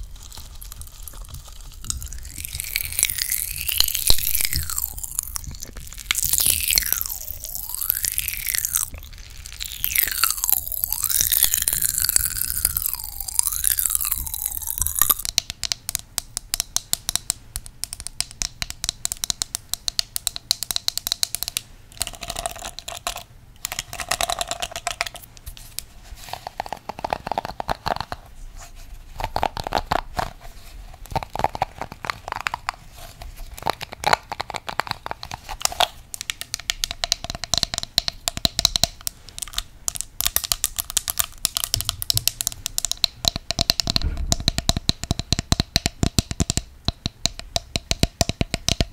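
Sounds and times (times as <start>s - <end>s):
comb scratching and clicking: 0.0s - 28.3s, 29.1s - 44.7s.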